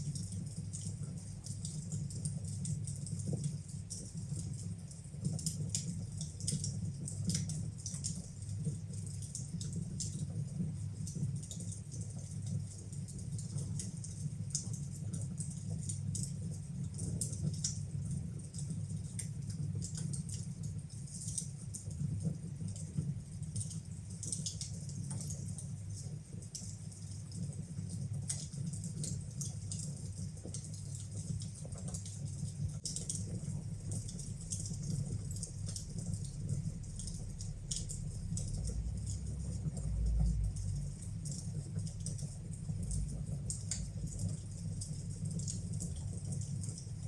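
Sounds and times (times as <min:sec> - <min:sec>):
fire crackling in a fireplace: 0:00.0 - 0:47.0
low rumble of flames: 0:00.0 - 0:47.0.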